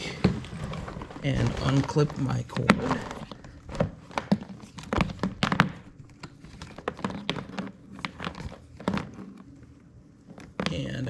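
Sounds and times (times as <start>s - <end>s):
rustling: 0.0s - 9.6s.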